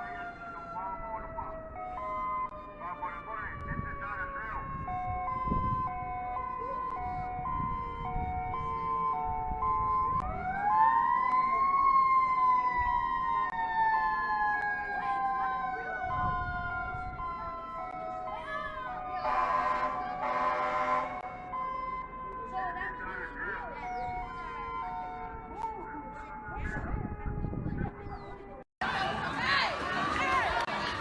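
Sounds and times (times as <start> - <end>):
two-tone warning siren: 0.0 - 28.7
wailing siren: 0.0 - 29.6.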